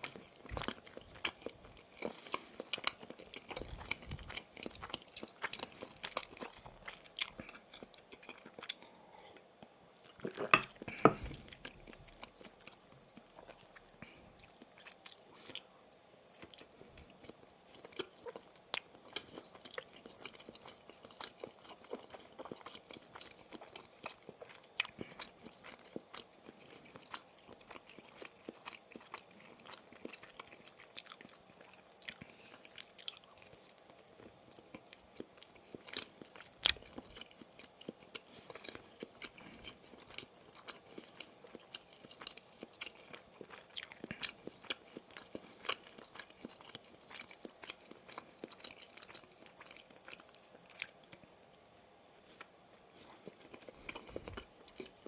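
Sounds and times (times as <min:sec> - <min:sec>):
chewing sausage: 0:00.0 - 0:55.0.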